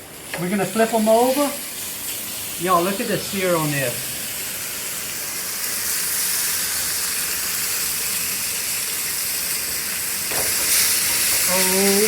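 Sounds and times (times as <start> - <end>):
beef sizzling in a pan: 0.0 - 12.0.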